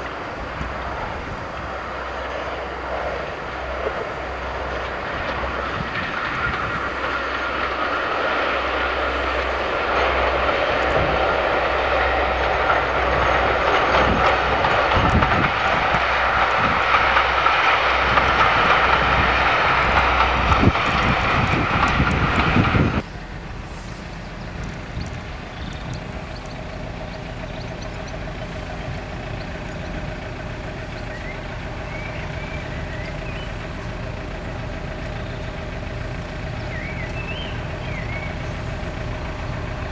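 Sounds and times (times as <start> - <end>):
diesel train passing: 0.0 - 39.9
low engine hum: 0.0 - 39.9.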